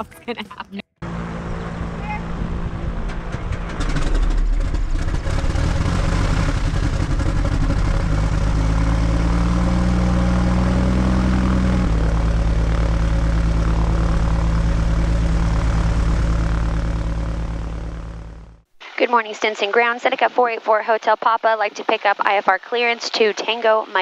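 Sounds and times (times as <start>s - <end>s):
propeller aircraft engines droning: 0.0s - 24.0s.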